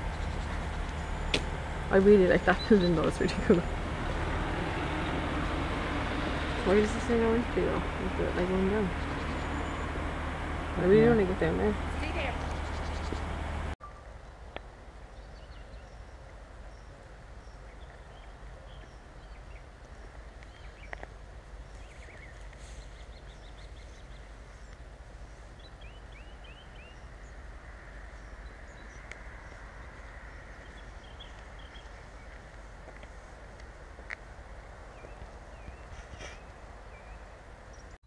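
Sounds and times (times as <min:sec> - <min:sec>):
small birds chirping: 0:00.0 - 0:13.8, 0:15.2 - 0:33.6, 0:34.6 - 0:38.0.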